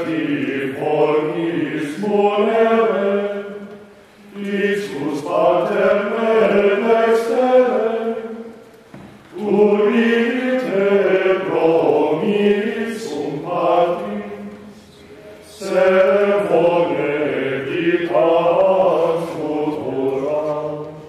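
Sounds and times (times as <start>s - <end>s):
choir singing plainchant: 0.0s - 21.0s.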